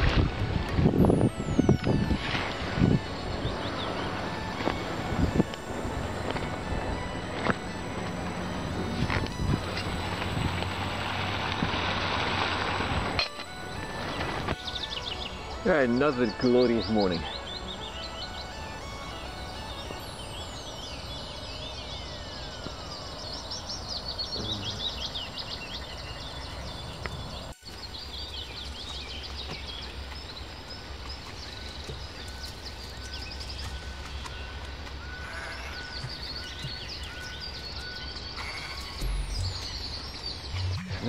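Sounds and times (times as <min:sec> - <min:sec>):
steady low rumble: 0:00.0 - 0:16.2, 0:16.8 - 0:41.0
birds chirping and trilling: 0:00.0 - 0:41.0.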